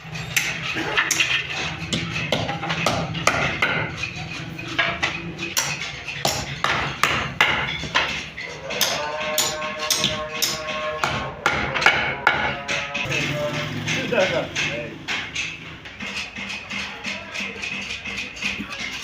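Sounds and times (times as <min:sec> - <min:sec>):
sharp knocks and taps: 0:00.3 - 0:19.0.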